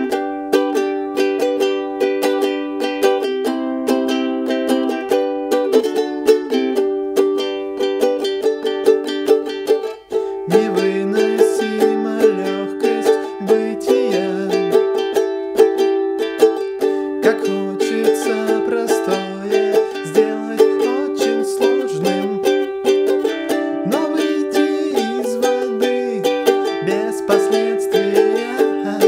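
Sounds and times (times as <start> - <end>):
ukulele strumming chords: 0.0 - 29.0.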